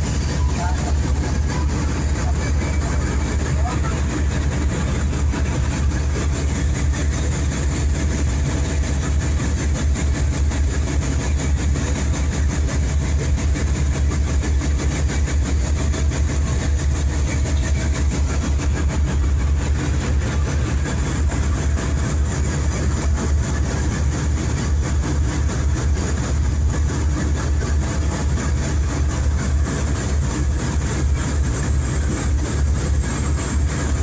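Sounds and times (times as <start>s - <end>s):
boat engine droning: 0.0s - 34.0s
water churning along hull: 0.0s - 34.0s.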